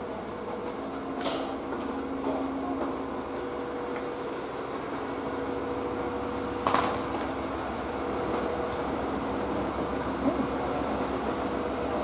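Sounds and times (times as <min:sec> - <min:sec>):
diesel railcars idling: 0:00.0 - 0:12.0.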